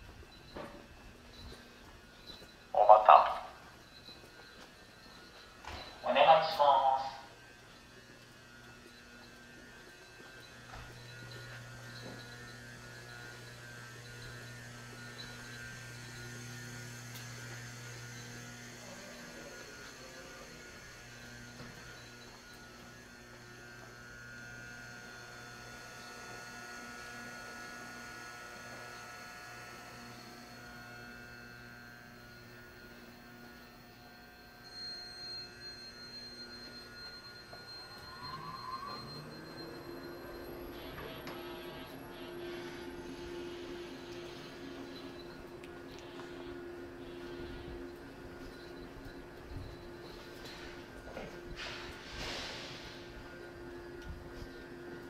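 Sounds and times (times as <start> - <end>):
faint high whine: 0.0 - 55.0
train electrical hum: 0.0 - 55.0.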